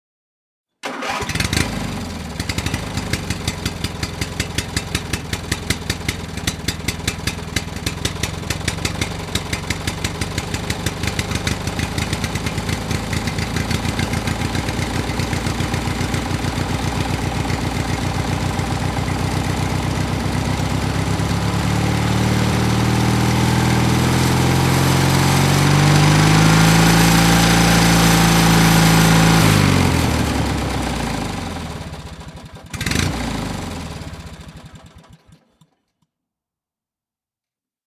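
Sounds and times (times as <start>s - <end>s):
chainsaw engine idling and revving: 0.8s - 35.6s.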